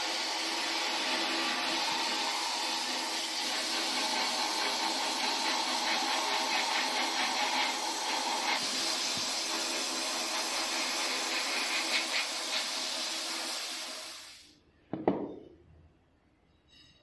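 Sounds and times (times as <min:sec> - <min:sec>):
steady hiss from cleaning tank: 0:00.0 - 0:14.5.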